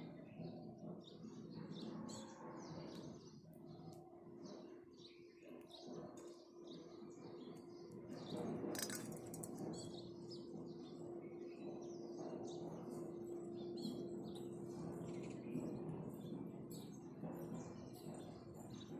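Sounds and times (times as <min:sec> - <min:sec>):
sparrows chirping: 0:00.0 - 0:18.9
steady low hum: 0:00.0 - 0:18.9.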